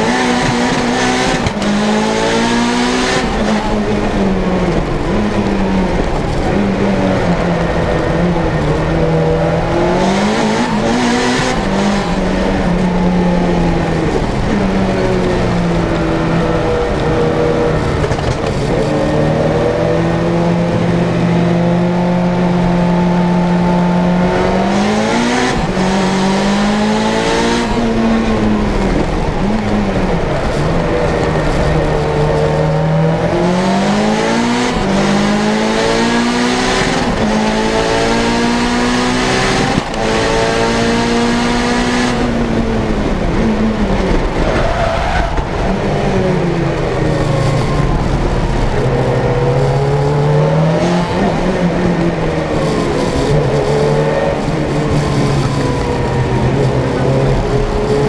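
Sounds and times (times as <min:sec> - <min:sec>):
turbocharged car engine revving: 0:00.0 - 0:58.0.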